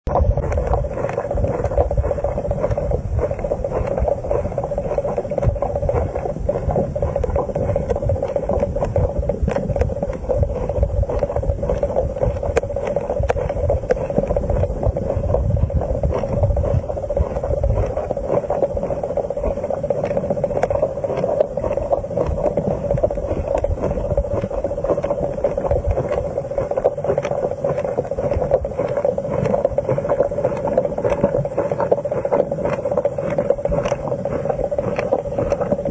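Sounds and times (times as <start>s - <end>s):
underwater hum and rumble: 0.0s - 35.9s
crackle of small clicks: 0.1s - 16.5s, 17.3s - 35.9s.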